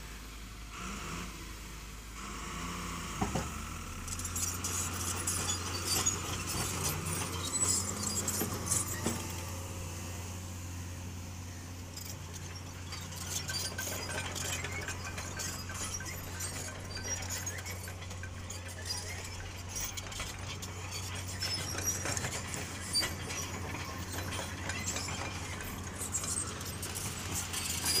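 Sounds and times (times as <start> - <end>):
truck diesel engine humming: 3.6 - 28.0.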